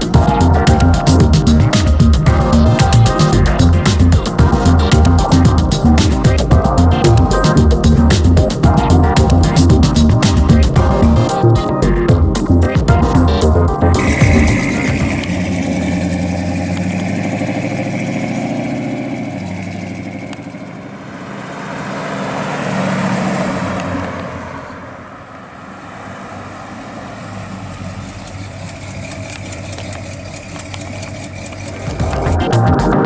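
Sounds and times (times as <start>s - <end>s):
car engine running: 0.0s - 24.2s, 27.2s - 33.0s.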